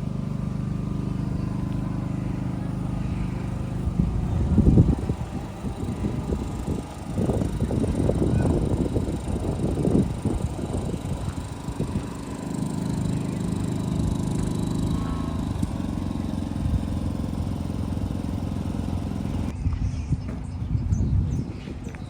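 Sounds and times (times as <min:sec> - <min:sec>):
truck engine idling: 0:00.0 - 0:19.6.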